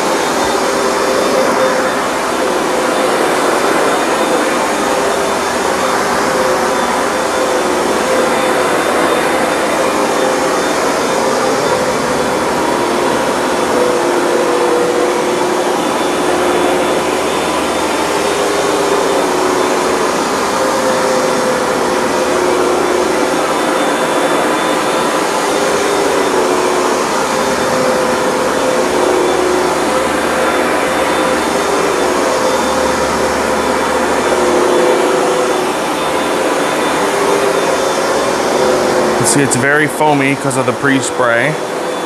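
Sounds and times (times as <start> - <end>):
carpet cleaner suction motor whining: 0.0 - 42.0.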